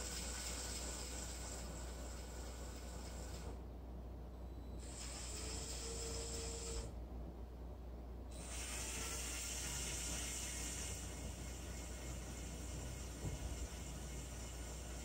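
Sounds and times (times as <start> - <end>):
toy motor and gears whirring: 0.0 - 3.6, 4.8 - 7.0, 8.3 - 15.0.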